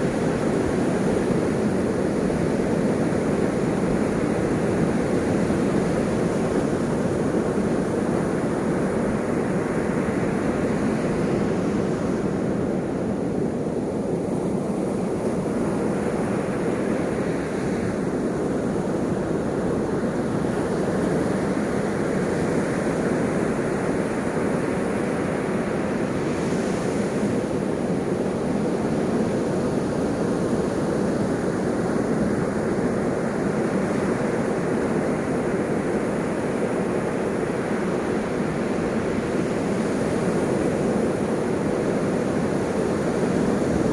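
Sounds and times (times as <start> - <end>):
ocean waves washing in: 0.0 - 43.9.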